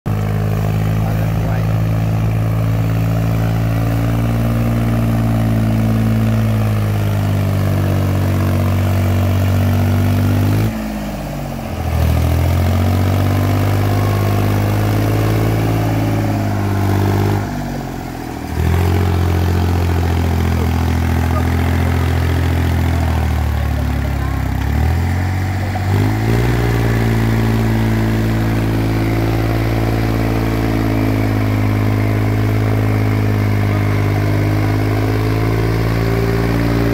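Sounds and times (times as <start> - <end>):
tractor diesel engine straining: 0.0 - 36.9.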